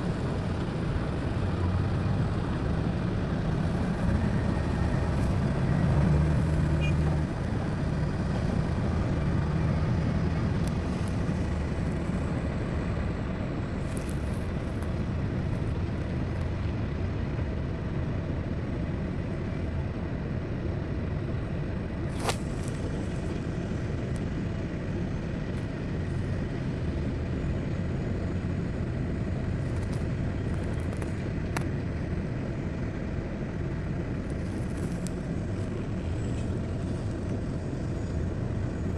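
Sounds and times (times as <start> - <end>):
diesel machinery rumbling: 0.0 - 38.9.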